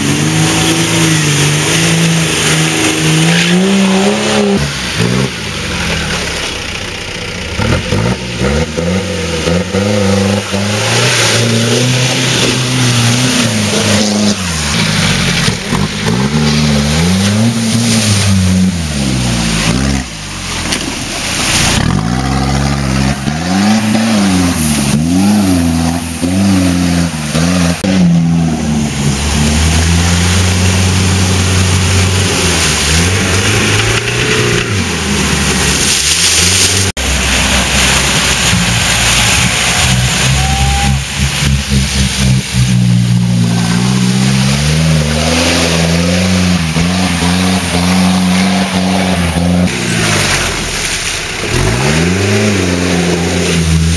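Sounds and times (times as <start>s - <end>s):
off-road engines revving: 0.0s - 53.9s.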